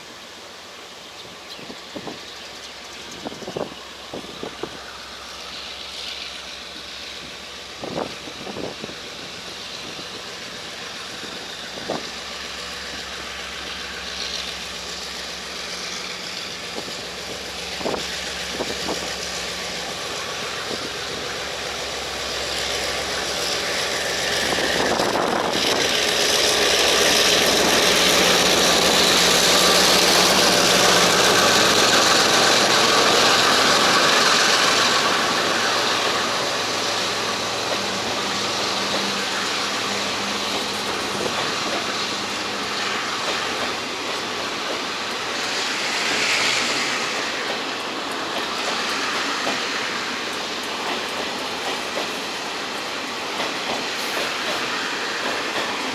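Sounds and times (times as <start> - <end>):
locomotive engine hum: 0.0 - 55.9
train rolling noise: 0.0 - 55.9.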